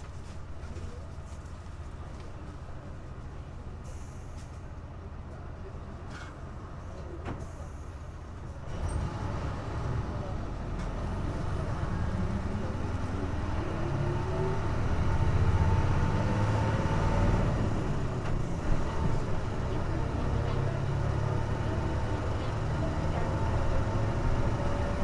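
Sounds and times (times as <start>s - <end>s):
bus engine rumbling: 0.0s - 25.0s.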